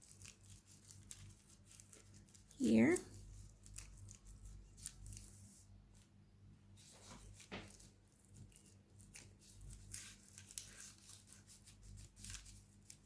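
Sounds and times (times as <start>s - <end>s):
wax paper rustling: 0.0s - 6.2s, 6.8s - 13.0s.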